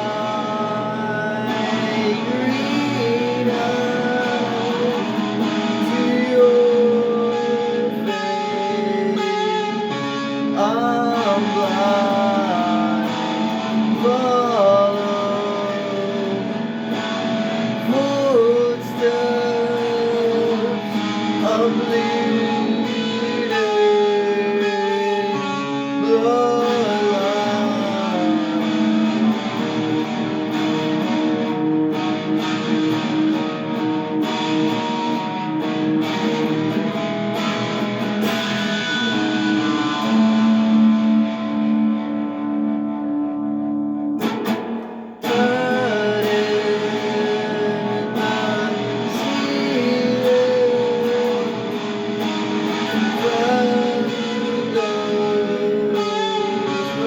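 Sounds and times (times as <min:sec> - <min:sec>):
electric guitar ringing chords: 0:00.0 - 0:57.0.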